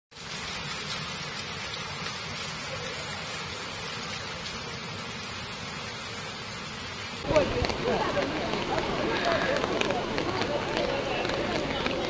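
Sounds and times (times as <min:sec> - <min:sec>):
heavy rain on water: 0:00.1 - 0:12.0.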